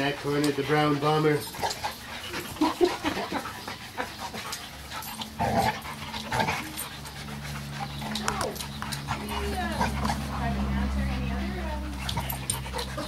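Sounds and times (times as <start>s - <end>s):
dogs panting: 0.0s - 13.0s
dogs scuffling: 0.0s - 13.0s.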